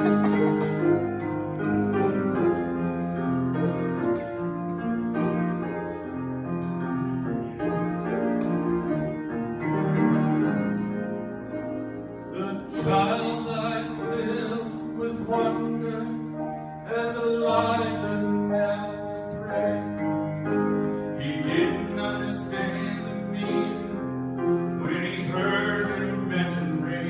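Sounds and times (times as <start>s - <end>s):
slow sustained piano chords: 0.0s - 27.0s.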